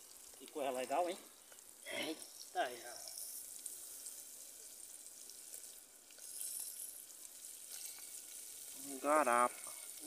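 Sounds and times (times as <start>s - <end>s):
oil sizzling in a pot: 0.0s - 10.0s.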